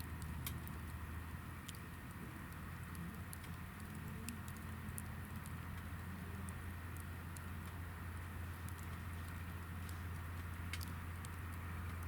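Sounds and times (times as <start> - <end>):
fire low rumble: 0.0 - 12.0
firewood crackling: 0.0 - 12.0.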